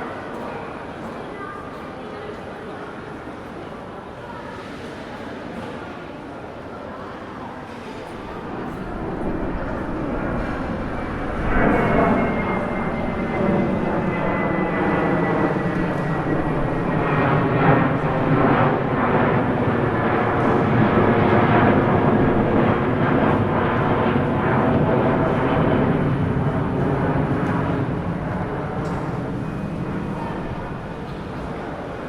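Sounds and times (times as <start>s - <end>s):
airplane engines running: 0.0s - 32.0s.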